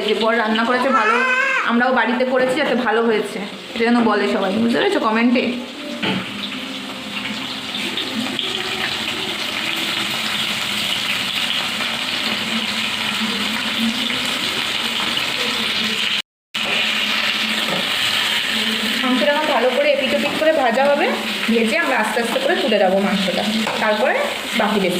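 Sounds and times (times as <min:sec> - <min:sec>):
chicken frying in hot oil: 0:00.0 - 0:24.9.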